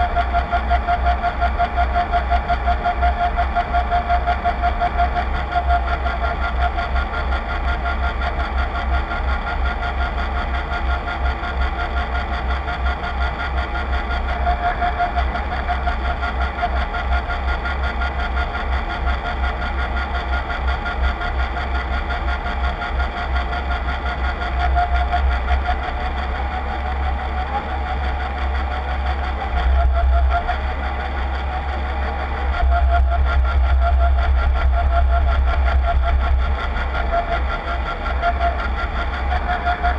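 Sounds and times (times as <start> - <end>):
drive machinery low hum: 0.0 - 39.9
mechanical whine: 0.0 - 39.9.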